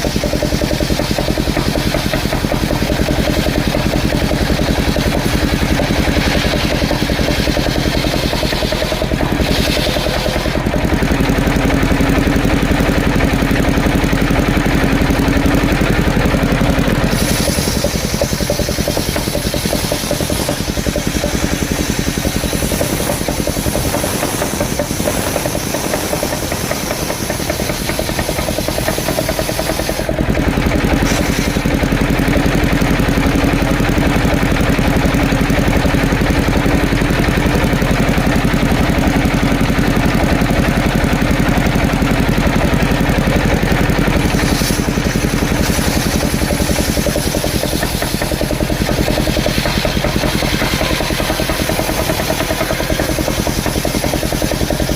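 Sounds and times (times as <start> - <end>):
sawmill sawing logs: 0.0 - 54.9.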